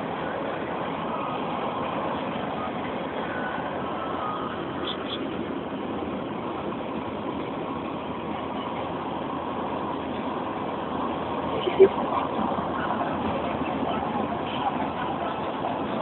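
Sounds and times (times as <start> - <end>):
engine and road noise in cabin: 0.0 - 16.0.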